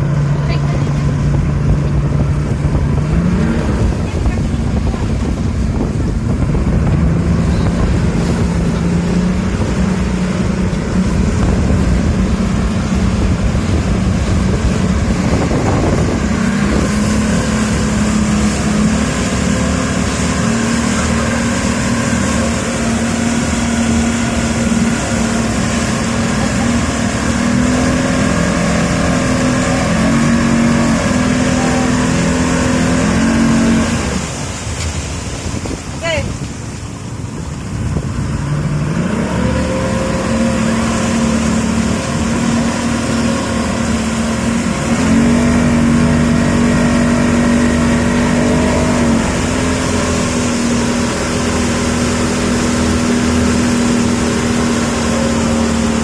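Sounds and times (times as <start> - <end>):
small boat motor running: 0.0 - 56.0.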